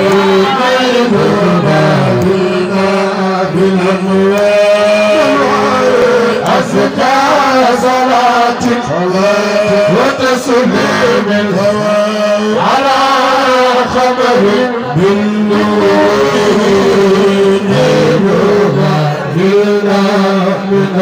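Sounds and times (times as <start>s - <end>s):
man chanting over loudspeaker: 0.0s - 21.0s.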